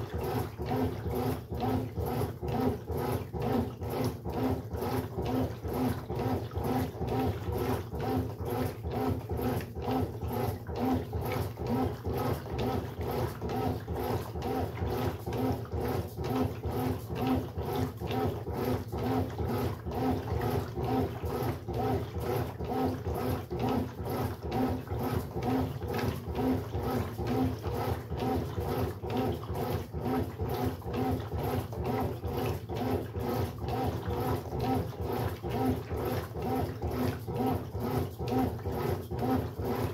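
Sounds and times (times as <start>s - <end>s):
washing machine growling pulse: 0.0s - 39.9s.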